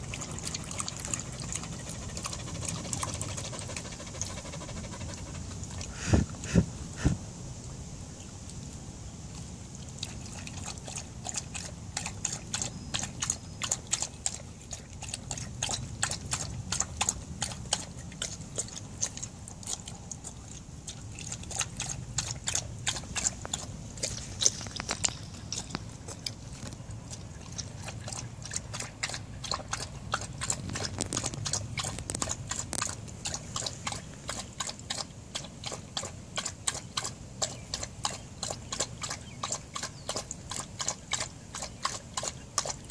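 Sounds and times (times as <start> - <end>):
dog lapping water: 0.0 - 7.2, 9.3 - 42.9.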